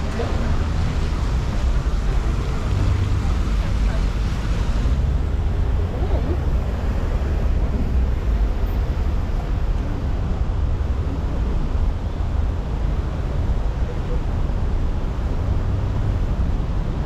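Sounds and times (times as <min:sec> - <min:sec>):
low rumble of passing vehicles: 0:00.0 - 0:17.0.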